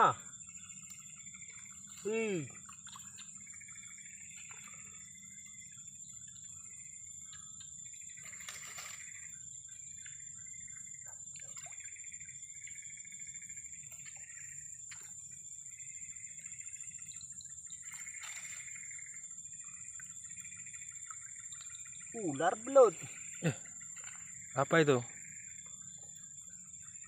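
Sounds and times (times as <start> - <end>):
high-pitched insect drone: 0.0 - 27.0
insect chirping calls: 0.0 - 27.0.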